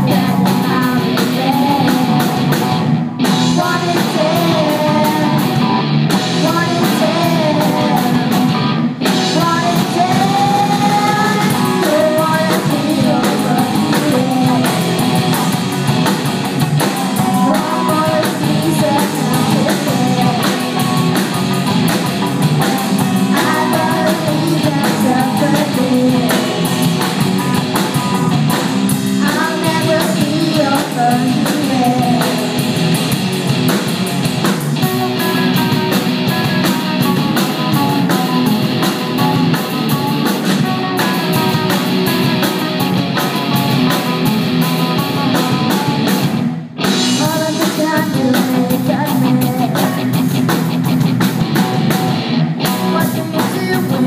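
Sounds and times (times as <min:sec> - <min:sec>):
person singing: 0:00.0 - 0:15.6, 0:16.8 - 0:22.0, 0:22.6 - 0:28.6, 0:29.2 - 0:33.0, 0:34.8 - 0:46.2, 0:46.8 - 0:50.4, 0:51.6 - 0:54.0
drum kit: 0:00.0 - 0:54.0
electric guitar: 0:00.0 - 0:54.0.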